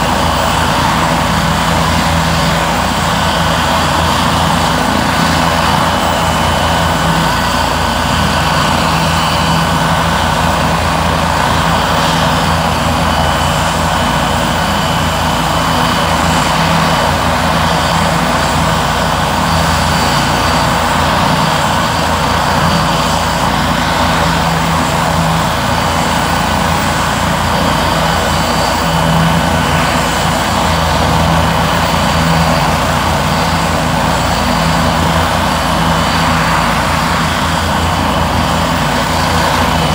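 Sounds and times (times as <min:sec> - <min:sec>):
helicopter rotor hum: 0:00.0 - 0:39.9
helicopter turbine whine: 0:00.0 - 0:39.9.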